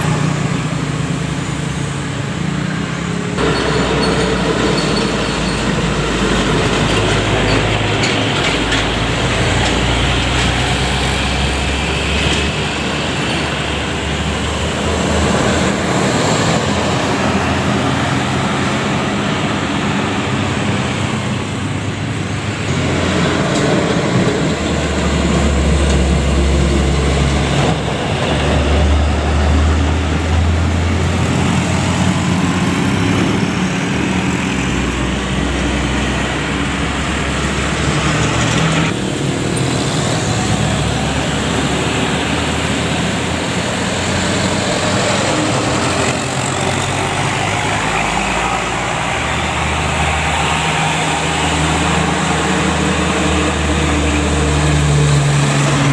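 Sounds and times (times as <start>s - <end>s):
diesel engine droning: 0.0s - 55.9s
road noise: 0.0s - 55.9s.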